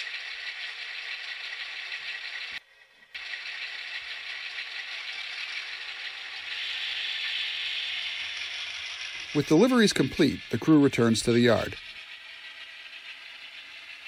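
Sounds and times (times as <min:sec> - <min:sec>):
model train wheels rattling on rail: 0:00.0 - 0:14.0.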